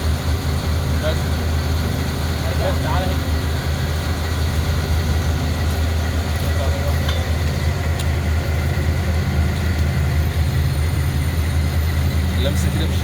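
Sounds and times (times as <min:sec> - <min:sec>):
machinery droning: 0:00.0 - 0:13.0.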